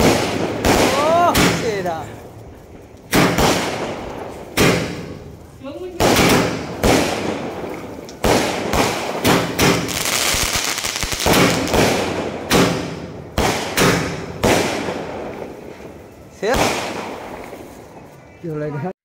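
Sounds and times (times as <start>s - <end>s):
fireworks bangs: 0.0s - 18.4s
fireworks crackling: 0.0s - 18.9s.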